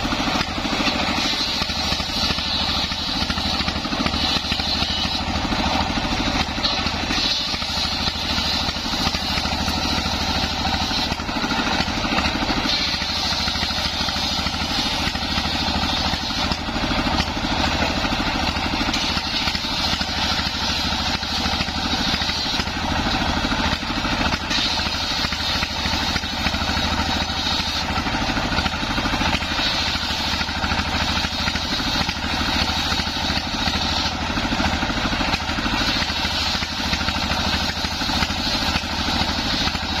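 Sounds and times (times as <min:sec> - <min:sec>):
circular saw cutting wood: 0:00.0 - 0:40.0
diesel engine running: 0:00.0 - 0:40.0.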